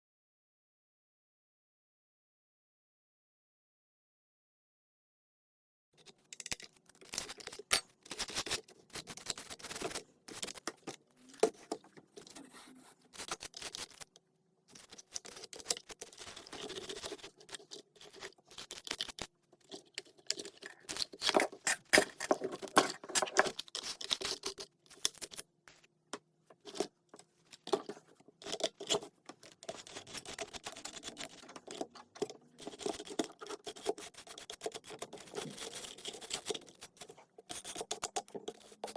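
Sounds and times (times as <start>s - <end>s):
scratching and rubbing plastic parts: 6.0s - 38.9s.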